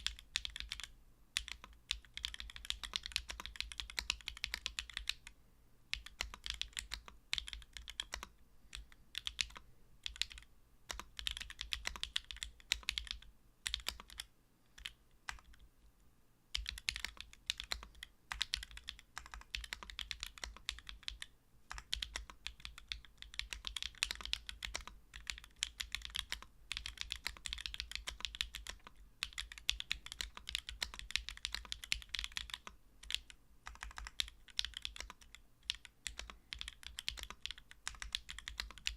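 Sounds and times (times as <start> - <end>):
typing on mechanical keyboard: 0.0 - 5.3, 5.9 - 15.6, 16.5 - 38.9.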